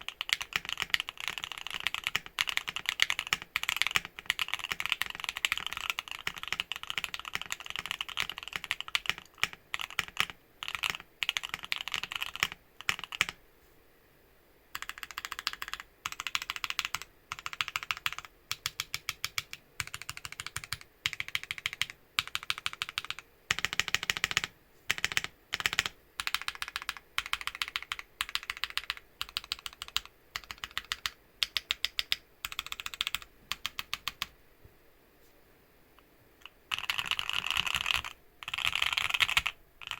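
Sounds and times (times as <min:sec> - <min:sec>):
mechanical keyboard typing: 0:00.0 - 0:13.4, 0:14.8 - 0:34.3, 0:36.4 - 0:39.9.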